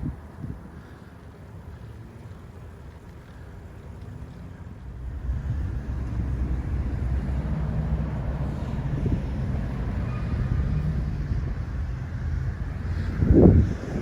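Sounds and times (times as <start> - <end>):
wind buffeting microphone: 0.0 - 2.8, 3.6 - 14.0.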